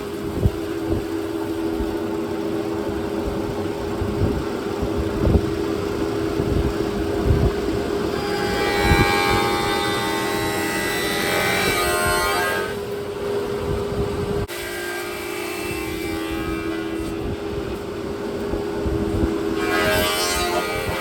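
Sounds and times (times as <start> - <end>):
planer mechanical hum: 0.0 - 21.0.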